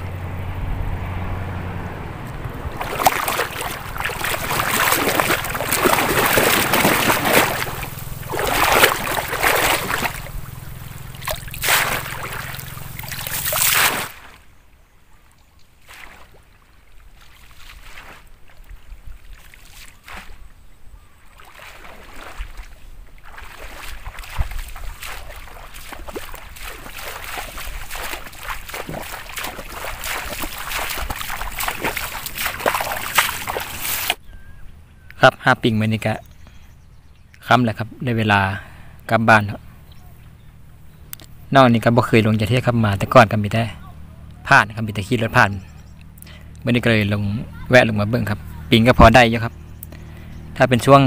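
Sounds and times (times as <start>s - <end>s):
muddy water sloshing and splashing: 0.0s - 14.5s, 15.2s - 34.6s, 38.8s - 51.0s
faint outdoor background: 0.0s - 51.0s.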